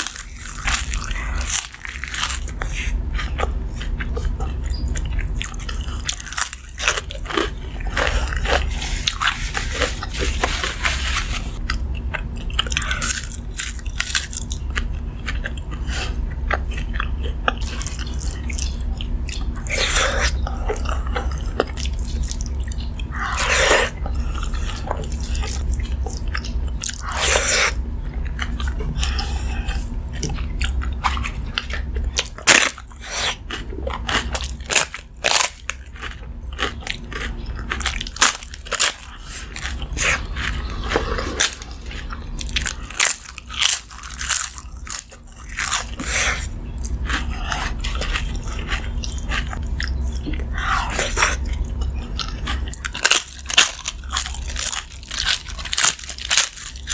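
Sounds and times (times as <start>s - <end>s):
chewing crisp food: 0.0s - 56.9s
low hum: 0.0s - 56.9s.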